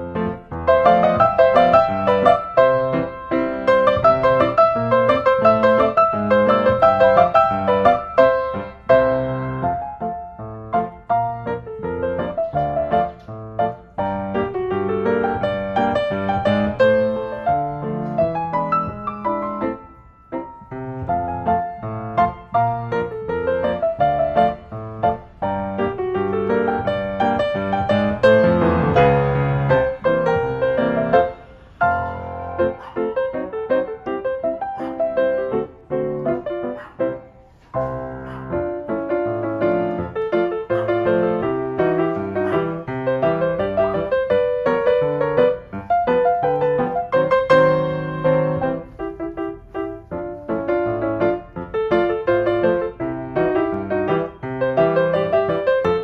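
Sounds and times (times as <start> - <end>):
gentle solo piano: 0.0 - 56.0.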